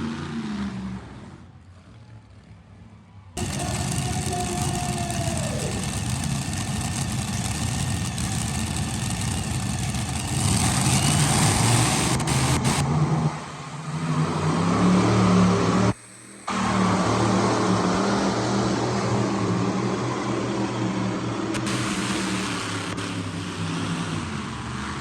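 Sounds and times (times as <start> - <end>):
diesel truck engine running: 3.4 - 25.0.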